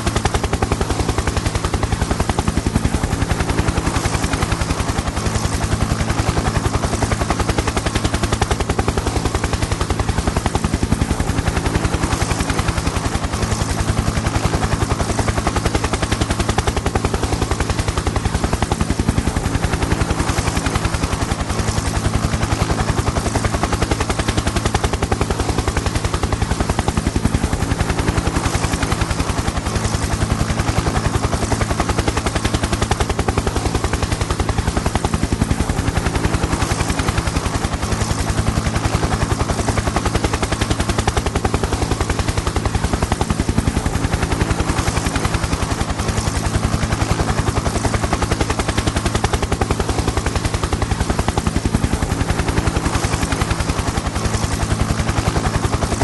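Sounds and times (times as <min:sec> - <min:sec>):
helicopter rotor chop: 0:00.0 - 0:56.0.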